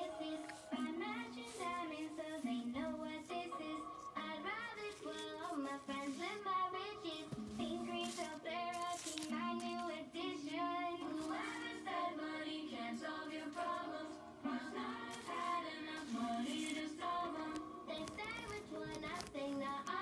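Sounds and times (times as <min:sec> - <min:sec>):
music: 0:00.0 - 0:20.0.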